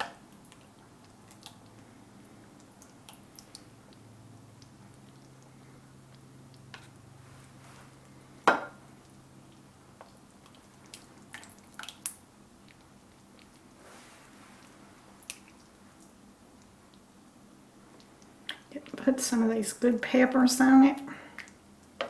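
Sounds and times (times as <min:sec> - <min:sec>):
ladle scooping food wet squishing: 0:00.0 - 0:19.0.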